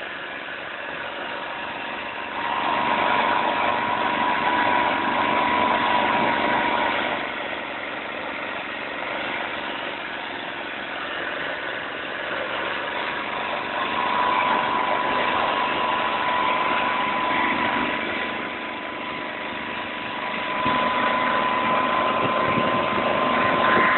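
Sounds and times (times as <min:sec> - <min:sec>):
motor cultivator engine running: 0:00.0 - 0:23.9
thin steady whine: 0:00.0 - 0:23.9.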